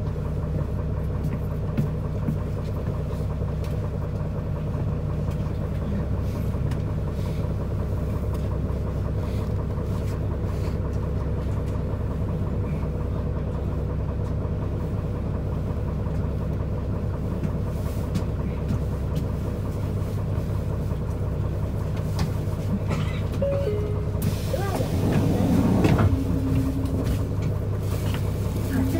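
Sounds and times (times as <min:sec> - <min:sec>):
bus engine idling: 0:00.0 - 0:28.9.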